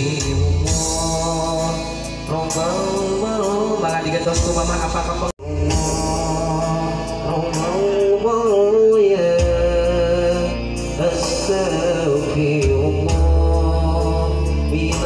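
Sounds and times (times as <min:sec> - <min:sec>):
man singing slow melody: 0:00.0 - 0:15.0
music with low bass: 0:00.0 - 0:15.0.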